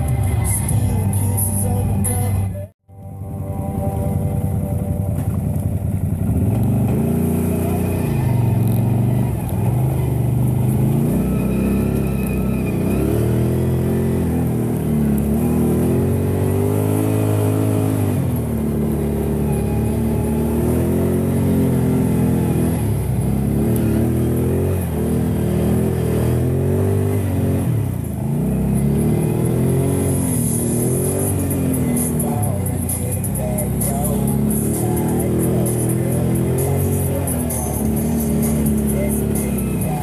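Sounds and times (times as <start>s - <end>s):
atv engine revving: 3.4s - 40.0s.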